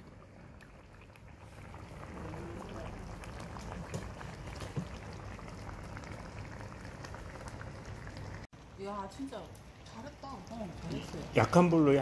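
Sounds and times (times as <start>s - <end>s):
pot bubbling at a simmer: 0.0s - 12.0s.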